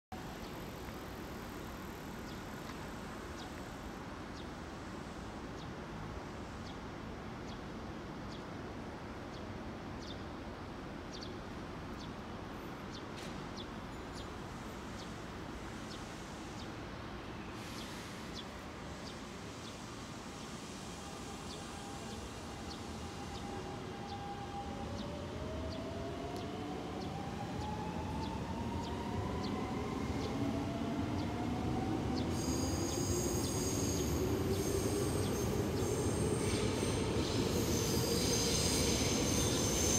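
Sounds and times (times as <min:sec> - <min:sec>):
faint whine of approaching train: 0:00.1 - 0:39.9.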